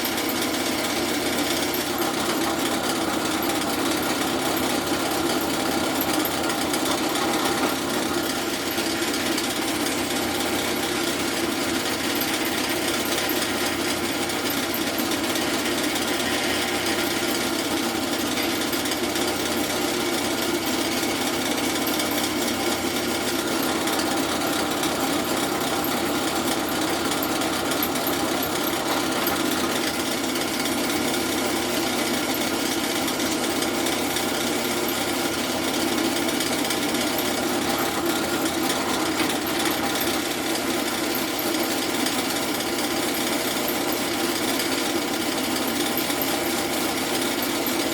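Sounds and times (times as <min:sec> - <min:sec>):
drill press drilling metal: 0:00.0 - 0:47.9.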